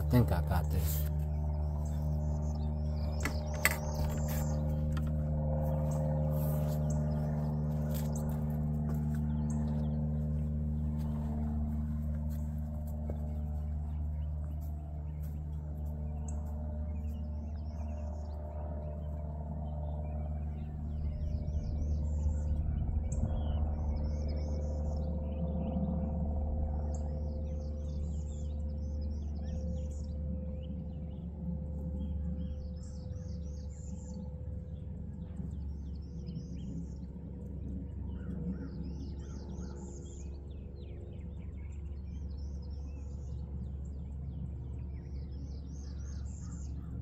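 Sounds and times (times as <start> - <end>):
birds chirping: 0.0 - 47.0
low machine hum: 0.0 - 47.0.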